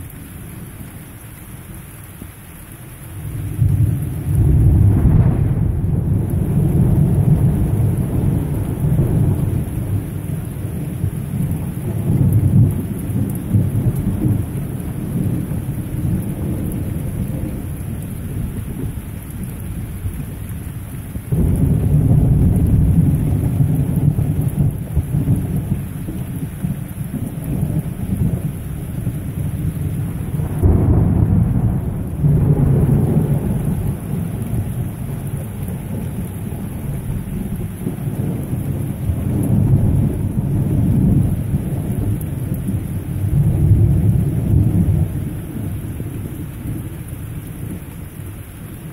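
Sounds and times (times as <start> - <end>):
heavy rain pouring: 0.0 - 48.9
rolling thunder: 3.3 - 19.0, 21.3 - 47.8.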